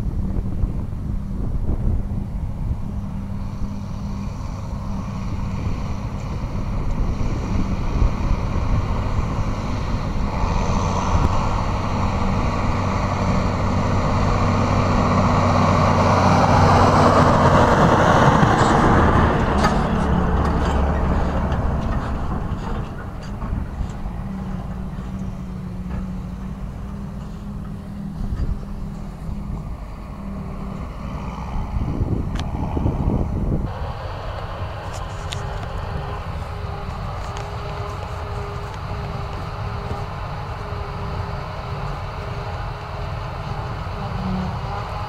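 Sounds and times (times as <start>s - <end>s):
forage harvester running: 0.0s - 45.0s
tractor running under load: 0.0s - 45.0s.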